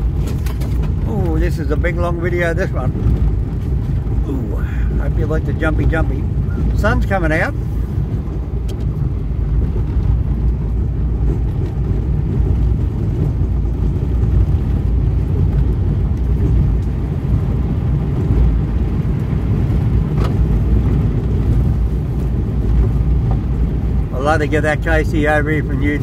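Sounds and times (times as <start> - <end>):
engine and tyres rumbling: 0.0 - 26.0.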